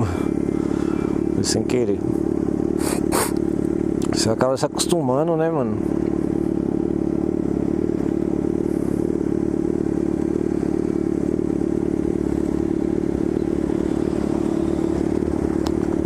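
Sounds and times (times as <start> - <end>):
motorcycle engine running loud: 0.0 - 16.0.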